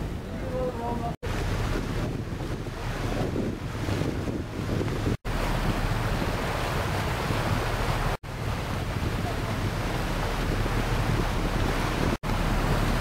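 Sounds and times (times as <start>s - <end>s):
choppy water washing: 0.0s - 13.0s
wind buffeting microphone: 0.0s - 13.0s.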